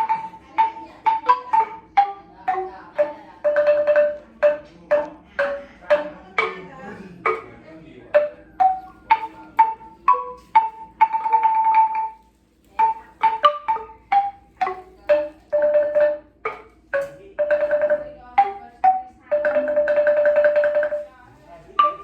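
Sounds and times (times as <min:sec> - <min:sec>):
struck ringing instrument melody: 0:00.0 - 0:22.0.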